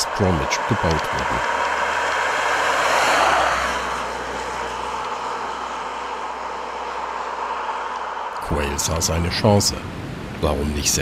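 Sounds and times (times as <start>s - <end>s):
sports car driving past: 0.0s - 10.2s
engine and tyre noise: 0.0s - 11.0s.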